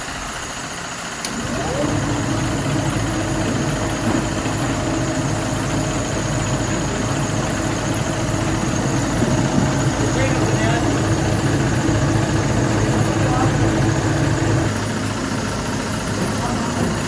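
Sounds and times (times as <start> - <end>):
heavy factory machinery running: 0.0 - 17.0.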